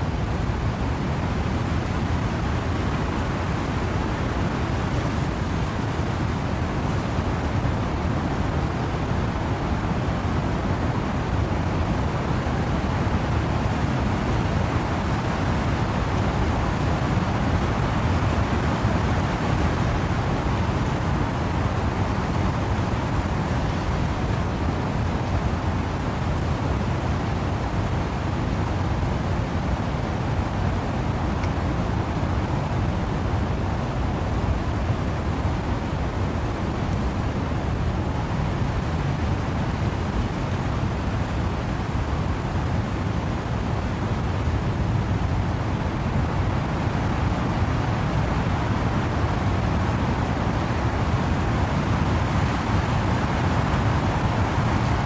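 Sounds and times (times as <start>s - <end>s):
wind and rain: 0.0s - 55.0s.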